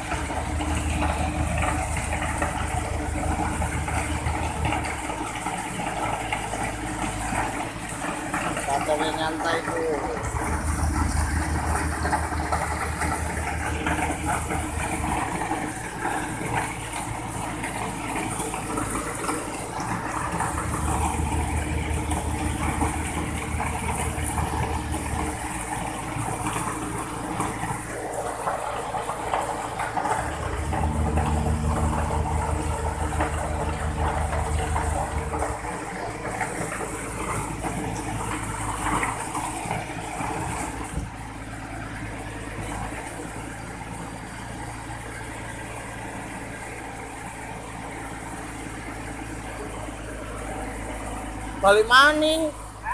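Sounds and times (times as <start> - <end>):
concrete truck engine and drum humming: 0.0 - 52.9
wet concrete sliding down chute: 0.0 - 52.9.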